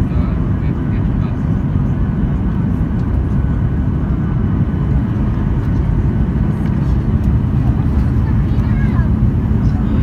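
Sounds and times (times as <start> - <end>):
jet engines and airflow rumble: 0.0 - 10.0.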